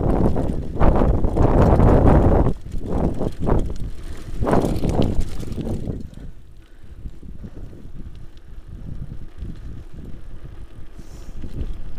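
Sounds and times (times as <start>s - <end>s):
bike knocks and rattles over bumps: 0.0s - 10.8s
bike tyre rumble on grass: 0.0s - 11.9s.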